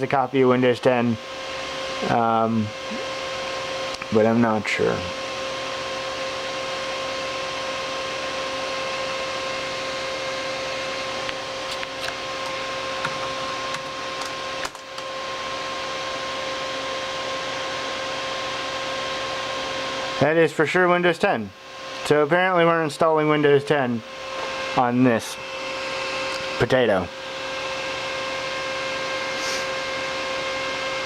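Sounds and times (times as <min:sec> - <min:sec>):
computer fans whirring: 0:00.0 - 0:31.0.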